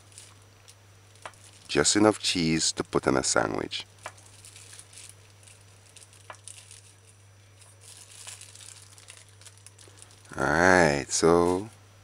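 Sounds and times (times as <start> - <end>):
plastic wrap crinkling: 0.0 - 2.8, 3.7 - 11.8
steady low hum: 0.0 - 12.0.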